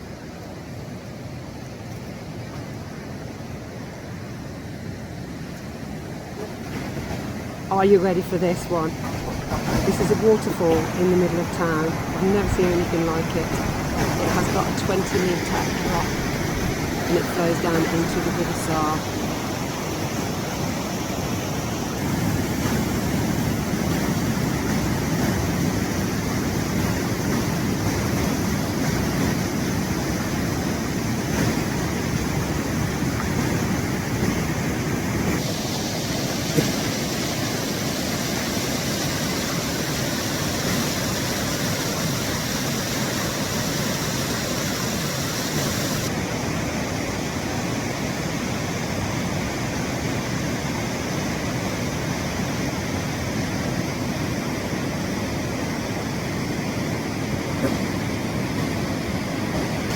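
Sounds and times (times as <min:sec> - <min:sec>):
waterfall rushing: 0:06.6 - 0:59.9.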